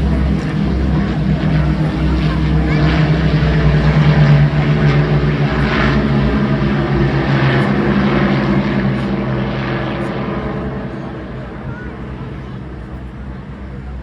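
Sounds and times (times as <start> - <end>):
propeller aircraft engine droning: 0.0 - 14.0.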